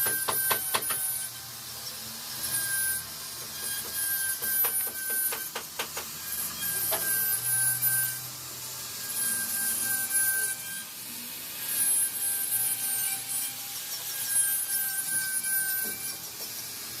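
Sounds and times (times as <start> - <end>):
router cutting wood: 0.0 - 17.0.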